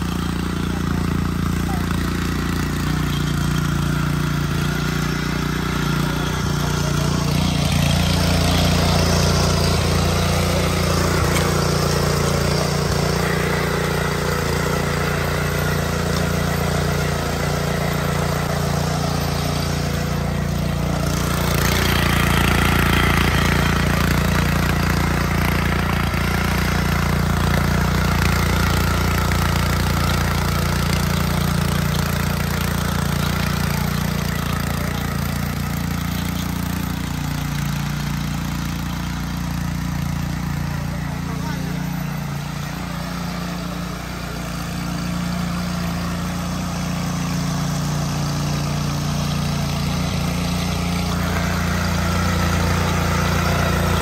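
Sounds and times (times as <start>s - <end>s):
tiller engine running: 0.0s - 54.0s.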